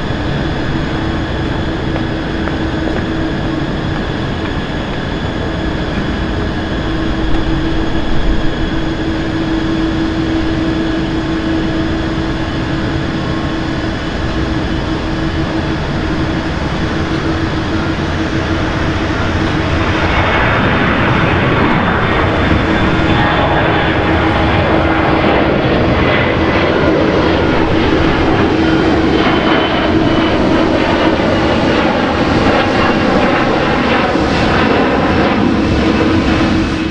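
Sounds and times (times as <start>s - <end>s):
jet engines at takeoff: 0.0s - 36.9s.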